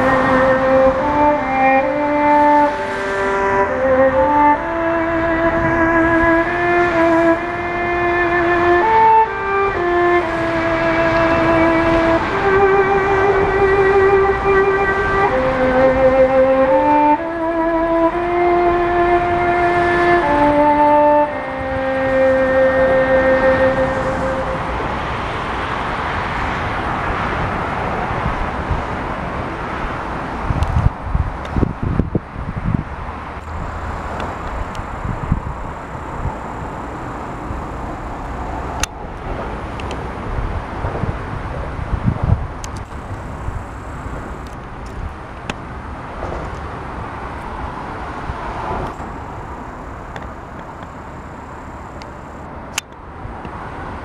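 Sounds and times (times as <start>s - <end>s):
road traffic rushing hiss: 0.0s - 54.0s.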